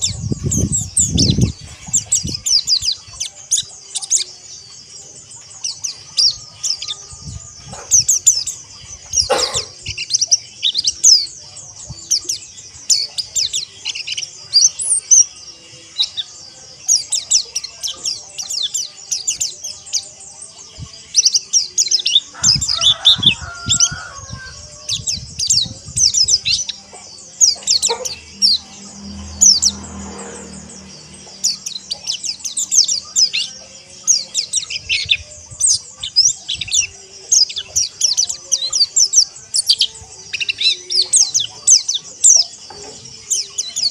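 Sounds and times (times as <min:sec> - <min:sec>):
birds chirping and trilling: 0:00.0 - 0:43.9.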